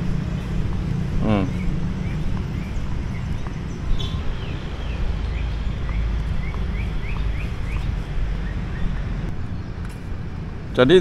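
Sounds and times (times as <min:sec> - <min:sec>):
small bird chirping: 0:00.0 - 0:10.0
wind rumble on microphone: 0:00.0 - 0:11.0.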